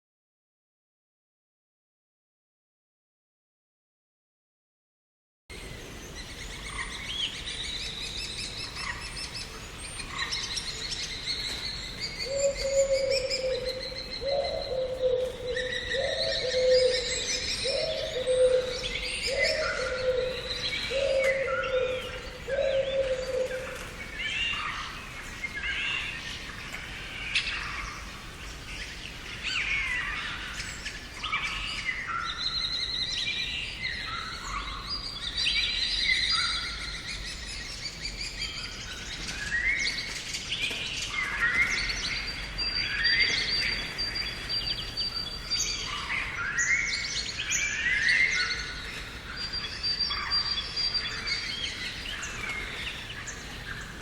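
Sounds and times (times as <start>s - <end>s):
songbirds chirping and whistling: 5.5s - 54.0s.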